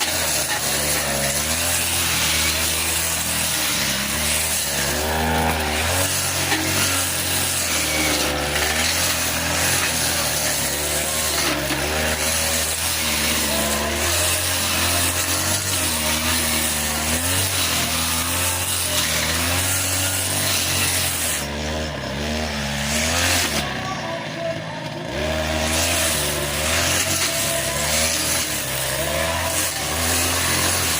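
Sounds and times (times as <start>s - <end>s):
brush cutter cutting grass: 0.0s - 30.9s.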